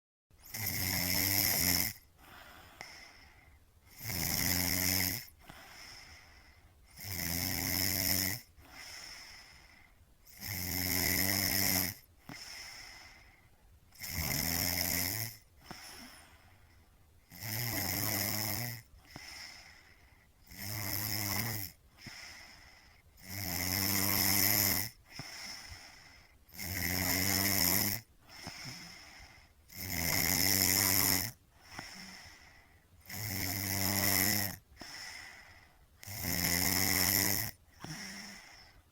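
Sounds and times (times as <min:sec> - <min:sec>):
person snoring: 0:00.4 - 0:16.7, 0:17.3 - 0:38.9.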